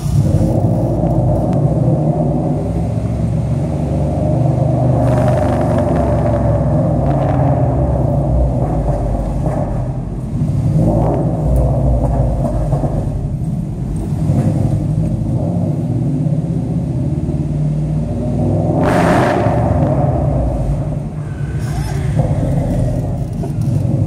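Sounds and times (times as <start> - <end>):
car exhaust droning: 0.0 - 24.0.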